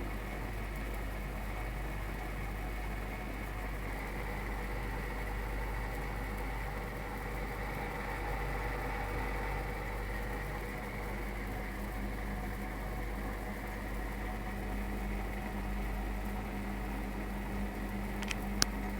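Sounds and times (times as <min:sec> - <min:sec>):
gas boiler humming: 0:00.0 - 0:18.9.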